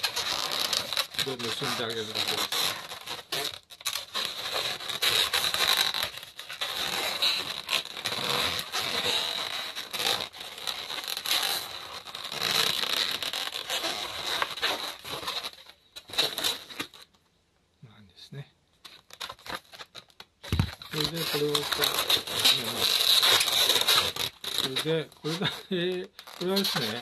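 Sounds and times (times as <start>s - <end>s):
balloons squeaking and rubbing: 0.0s - 17.2s, 18.8s - 27.0s.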